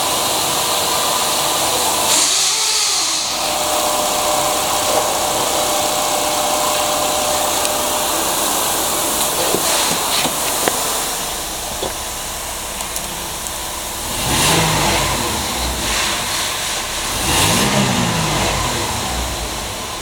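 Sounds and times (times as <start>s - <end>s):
car engine running: 0.0s - 20.0s
loud hiss: 0.0s - 20.0s.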